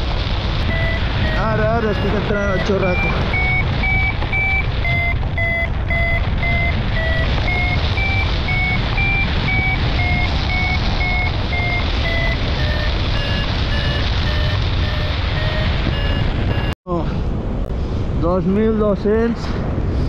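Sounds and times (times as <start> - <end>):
wind rushing on microphone: 0.0 - 20.0
variometer beeping: 0.6 - 16.8.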